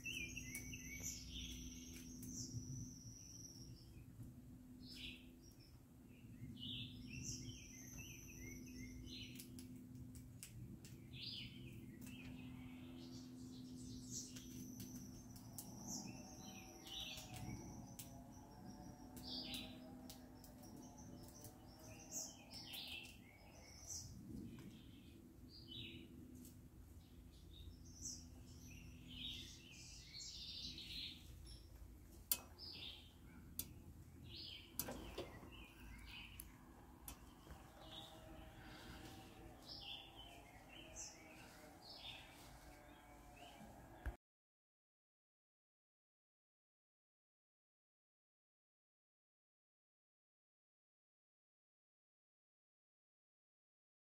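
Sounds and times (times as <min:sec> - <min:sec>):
low steady hum: 0:00.0 - 0:44.2
songbirds chirping: 0:00.0 - 0:44.2.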